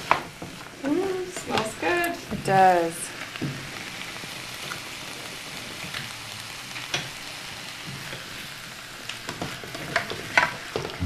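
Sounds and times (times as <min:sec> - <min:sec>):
small crackles: 0:00.0 - 0:11.0
stir fry sizzling in a pan: 0:00.0 - 0:11.0.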